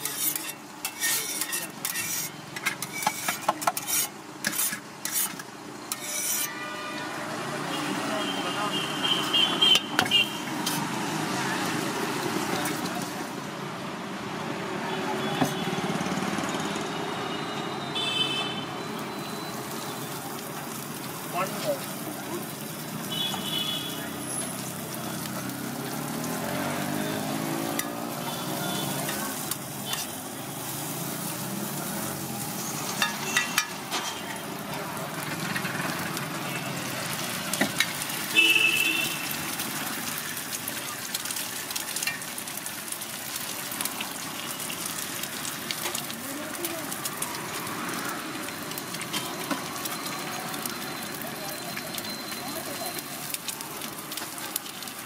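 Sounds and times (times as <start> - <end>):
food sizzling on a griddle: 0.0 - 55.0.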